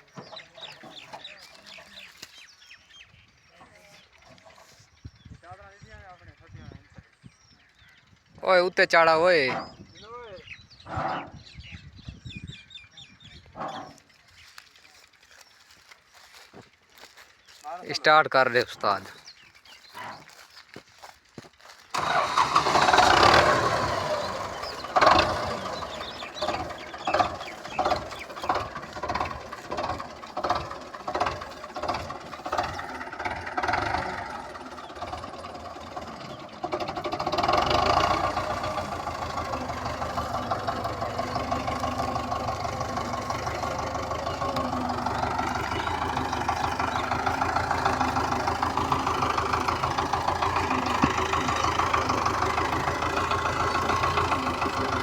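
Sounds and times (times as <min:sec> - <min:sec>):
diesel tractor engine starting: 0:00.0 - 0:12.4, 0:21.6 - 0:55.0.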